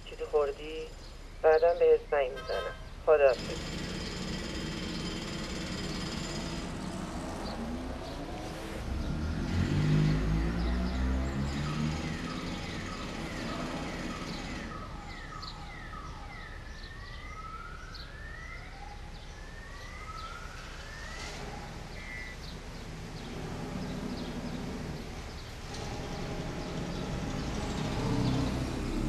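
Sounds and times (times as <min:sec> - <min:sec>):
distant siren wailing: 0:00.0 - 0:29.0
street background noise: 0:00.0 - 0:29.0.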